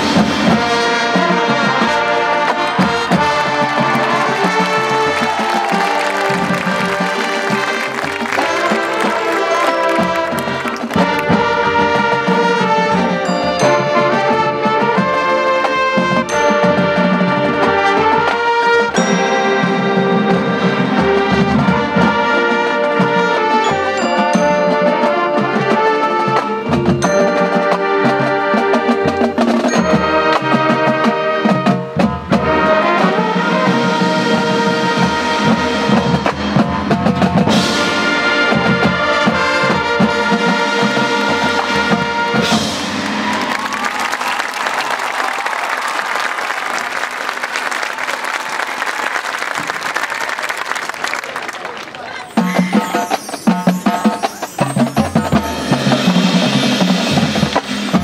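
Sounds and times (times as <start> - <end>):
marching band playing: 0.0 - 58.0.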